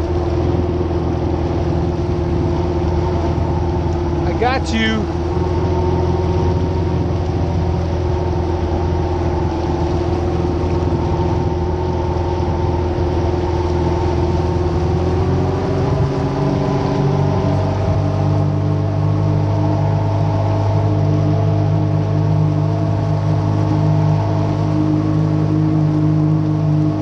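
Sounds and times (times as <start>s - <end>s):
jet ski engine running: 0.0s - 27.0s
water spraying off hull: 0.0s - 27.0s.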